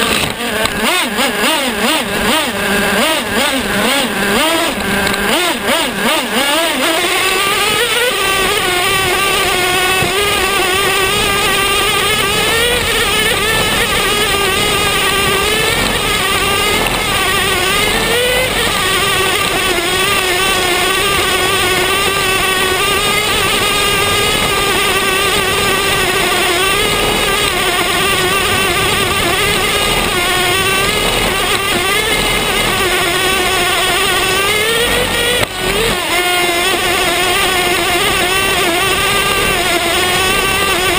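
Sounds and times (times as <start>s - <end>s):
model engine high-pitched buzz: 0.0s - 40.9s.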